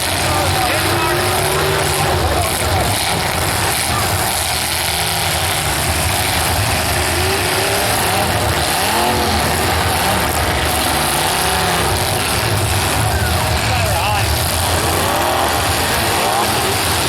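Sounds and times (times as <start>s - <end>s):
car engines revving: 0.0s - 17.0s
loud steady noise: 0.0s - 17.0s.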